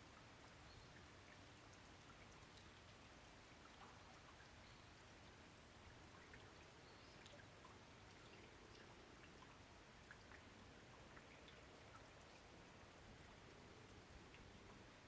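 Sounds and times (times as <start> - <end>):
faint rain hiss: 0.0 - 15.0.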